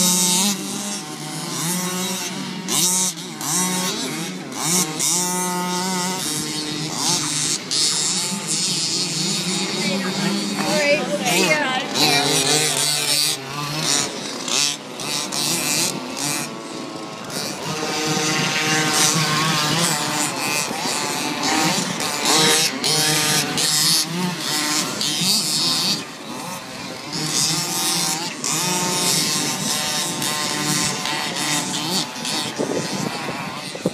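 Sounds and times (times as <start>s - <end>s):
toy car motor whining: 0.0s - 33.9s.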